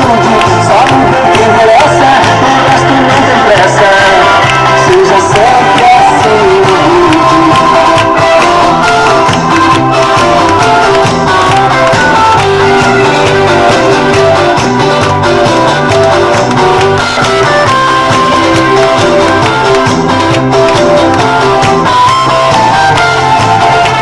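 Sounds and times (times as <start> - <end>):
loud music with guitar: 0.0 - 24.0
repeating bass line: 0.0 - 24.0.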